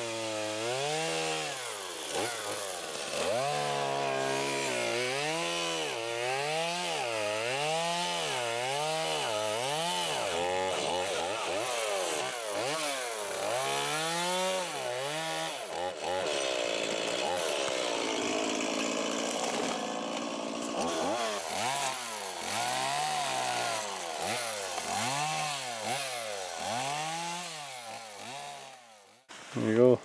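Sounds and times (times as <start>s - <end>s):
chainsaw cutting wood: 0.0s - 29.8s.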